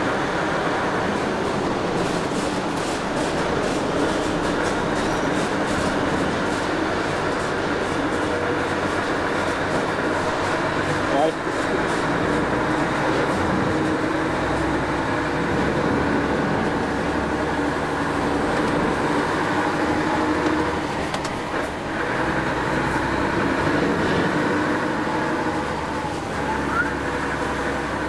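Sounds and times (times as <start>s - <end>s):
road and cab rumble: 0.0s - 28.0s
truck diesel engine drone: 0.0s - 28.0s.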